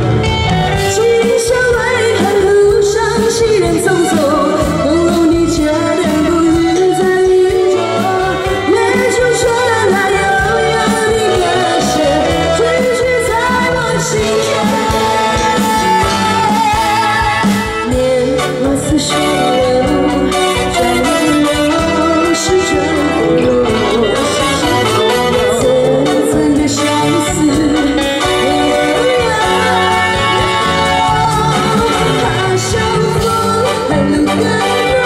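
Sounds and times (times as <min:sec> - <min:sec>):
live band playing: 0:00.0 - 0:35.0
woman singing into a microphone: 0:00.6 - 0:35.0.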